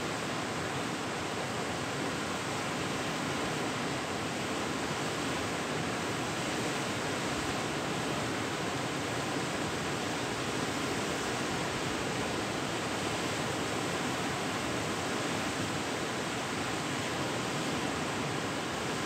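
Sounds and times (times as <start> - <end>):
river rapids rushing over rocks: 0.0 - 19.0.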